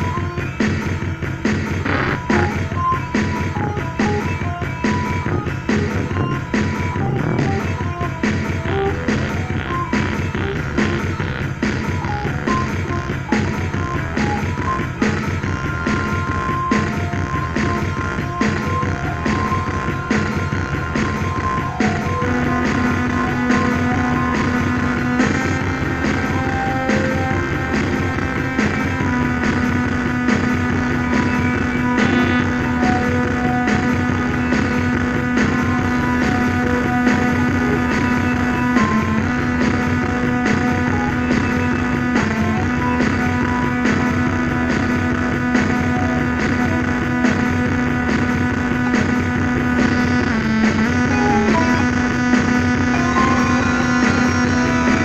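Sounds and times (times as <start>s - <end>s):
rock music with guitar: 0.0s - 55.0s.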